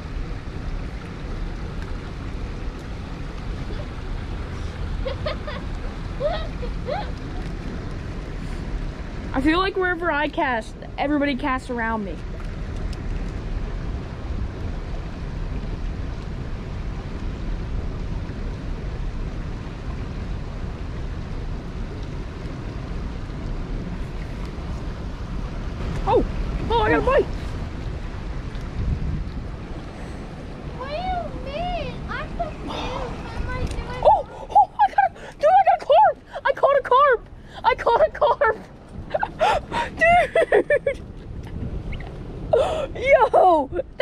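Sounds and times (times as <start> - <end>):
rushing water: 0.0 - 44.0
wind buffeting microphone: 0.0 - 44.0.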